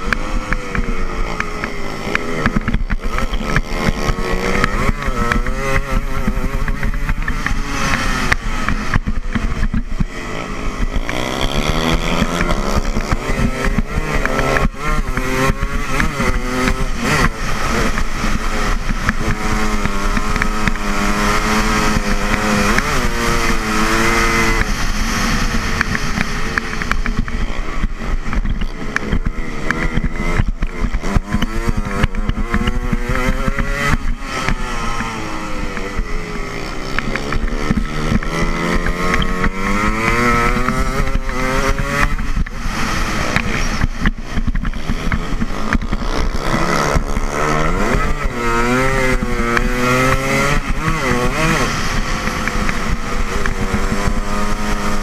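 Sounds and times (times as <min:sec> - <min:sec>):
dirt bike engine racing: 0:00.0 - 0:55.0.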